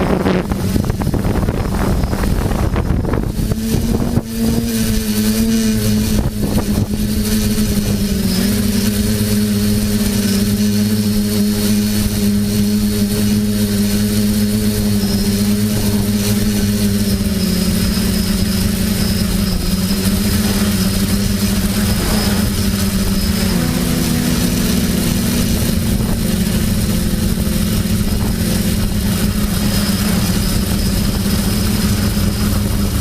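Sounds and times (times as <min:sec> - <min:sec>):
drone propellers buzzing: 0:00.0 - 0:33.0
wind rush: 0:00.0 - 0:33.0.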